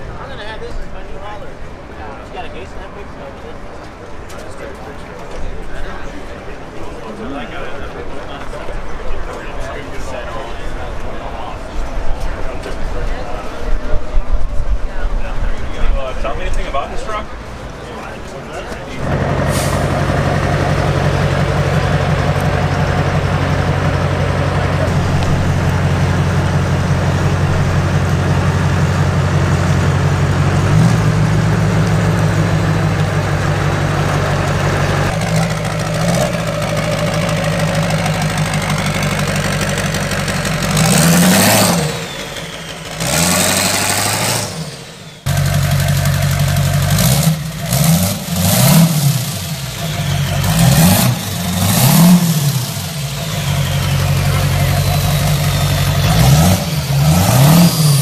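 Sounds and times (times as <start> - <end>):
truck engine idling and revving: 3.9 - 58.0.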